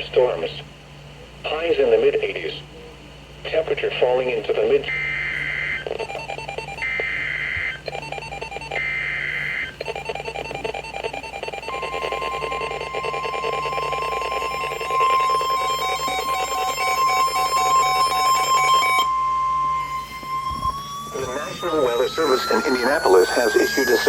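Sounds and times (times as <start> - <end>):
steady alarm tone: 4.6 - 24.0
screeching digital data bursts: 4.7 - 24.0.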